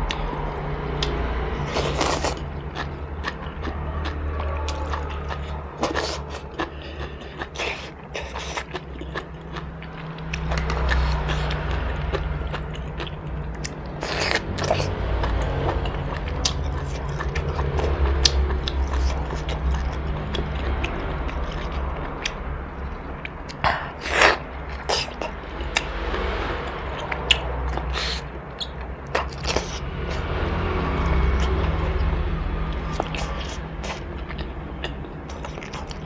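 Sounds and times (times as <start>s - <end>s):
person chewing with wet mouth sounds: 0.0s - 36.0s
steady low hum: 0.0s - 36.0s.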